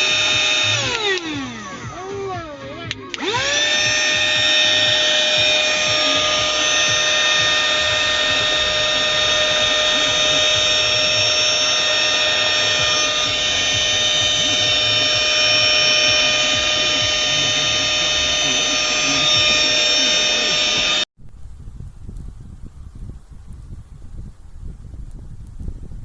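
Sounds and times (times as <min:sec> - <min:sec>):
small vacuum motor whining: 0:00.0 - 0:21.1.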